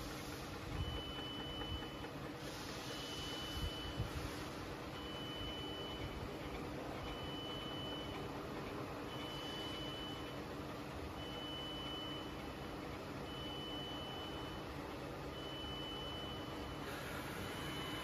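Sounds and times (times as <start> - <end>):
lathe mechanical hum: 0.0 - 18.0.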